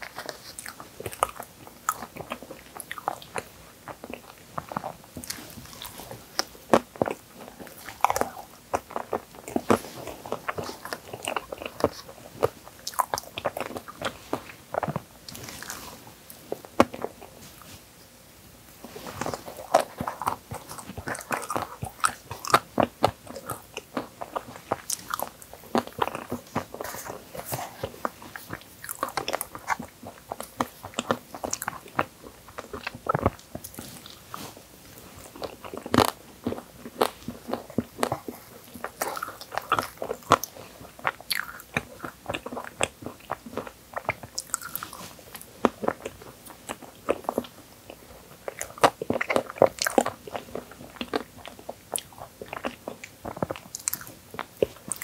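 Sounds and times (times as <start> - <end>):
chewing and smacking: 0.0 - 17.8, 18.8 - 55.0.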